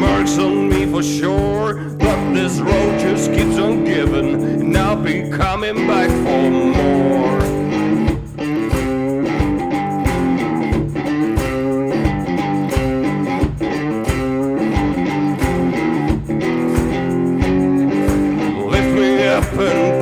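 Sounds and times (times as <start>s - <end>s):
blues-country resonator guitar music: 0.0s - 20.0s.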